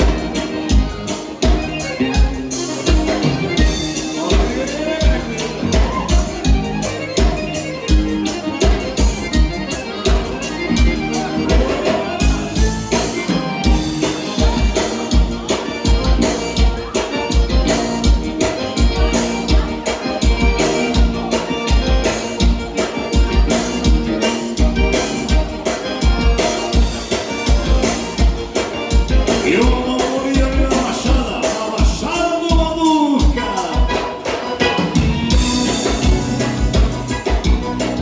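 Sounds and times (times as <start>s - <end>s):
held gliding melodic line: 0.0s - 31.3s, 35.0s - 38.0s
accordion-led dance band: 0.0s - 38.0s
steady drum beat: 0.0s - 38.0s.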